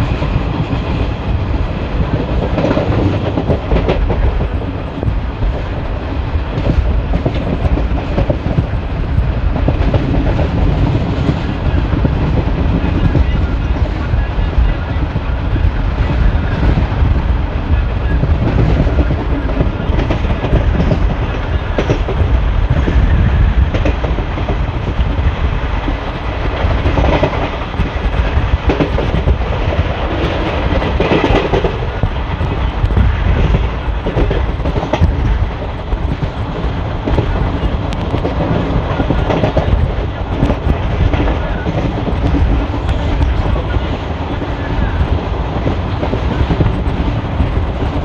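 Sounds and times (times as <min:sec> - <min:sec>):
rail joints clicking and clattering: 0:00.0 - 0:48.0
train wheels rumbling on rail: 0:00.0 - 0:48.0.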